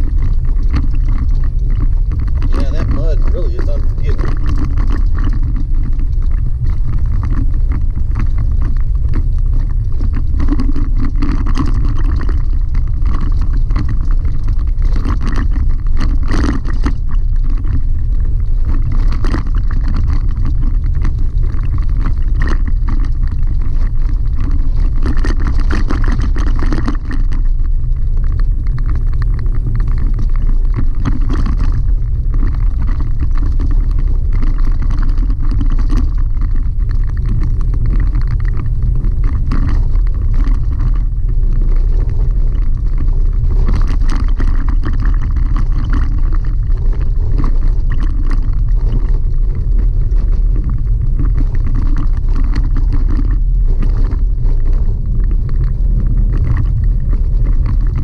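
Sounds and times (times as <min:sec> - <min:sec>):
small clicks and rattles: 0:00.0 - 0:58.0
tyres and drivetrain rumbling: 0:00.0 - 0:58.0.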